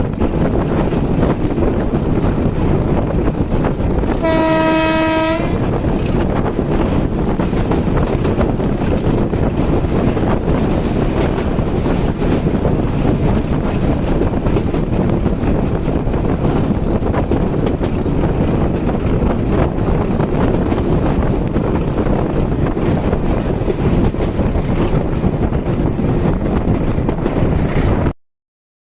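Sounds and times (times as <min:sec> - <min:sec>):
train rumbling on track: 0:00.0 - 0:28.1
wind buffeting microphone: 0:00.0 - 0:28.1.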